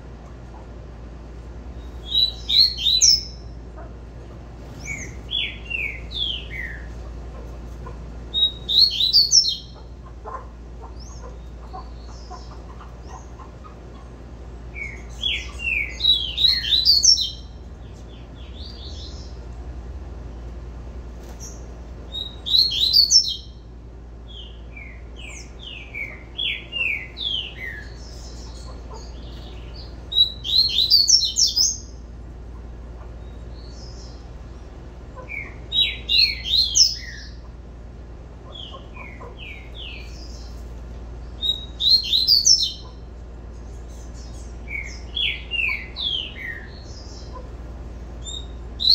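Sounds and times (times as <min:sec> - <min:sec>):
seedeater bird singing: 0:00.0 - 0:19.6, 0:21.2 - 0:37.7, 0:38.3 - 0:48.9.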